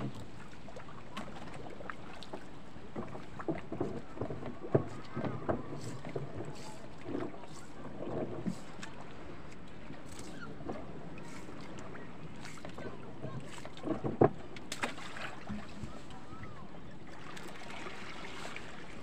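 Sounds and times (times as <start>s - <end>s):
wooden boat hull knocks and creaks: 0.0s - 16.6s
wind and water hiss: 0.0s - 19.0s.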